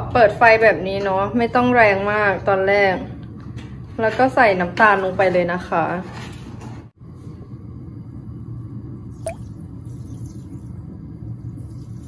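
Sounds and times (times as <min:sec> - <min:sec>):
gas burner low rumble: 0:00.0 - 0:06.0, 0:06.6 - 0:12.0.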